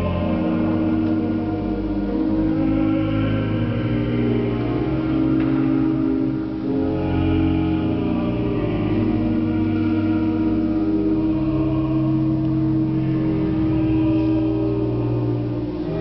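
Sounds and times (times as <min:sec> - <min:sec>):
pipe organ playing chords: 0:00.0 - 0:16.0.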